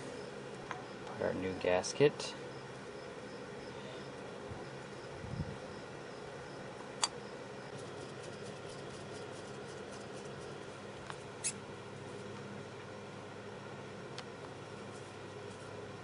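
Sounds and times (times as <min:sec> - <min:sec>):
steady faint hum: 0:00.0 - 0:16.0.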